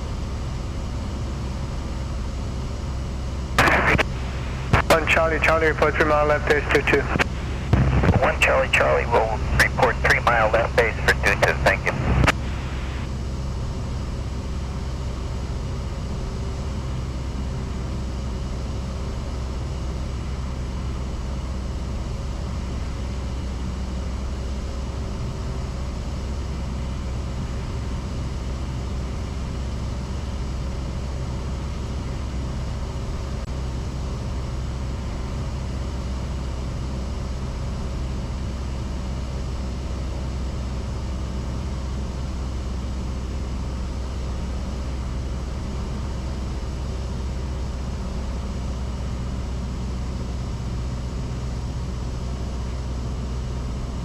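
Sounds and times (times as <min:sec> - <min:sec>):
airplane engine and propeller droning: 0:00.0 - 0:54.0.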